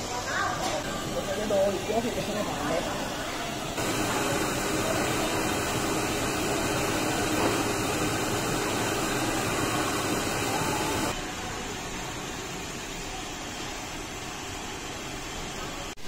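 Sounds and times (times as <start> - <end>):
ventilation hiss and hum: 0.0 - 16.0.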